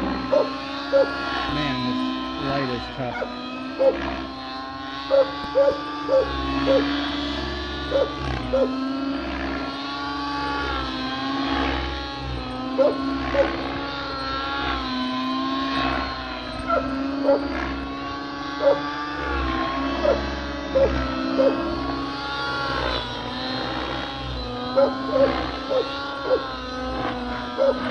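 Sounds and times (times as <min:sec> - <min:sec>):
rc helicopter engine whine: 0:00.0 - 0:27.9.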